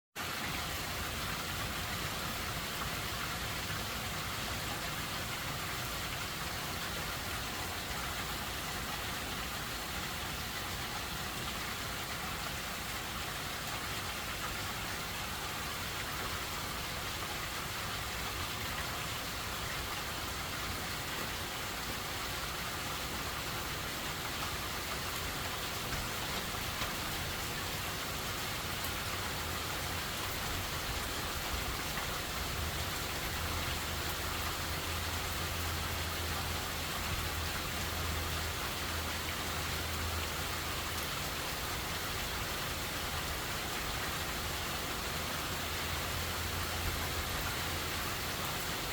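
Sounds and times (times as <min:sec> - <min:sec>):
steady rain hiss: 0:00.2 - 0:48.9.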